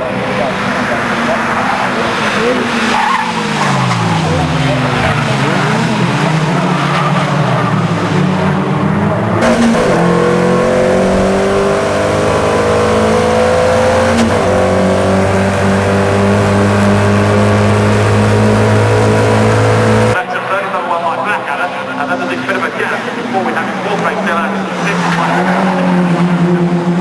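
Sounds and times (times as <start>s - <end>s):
racing car engine accelerating: 0.0s - 20.2s, 24.5s - 27.0s.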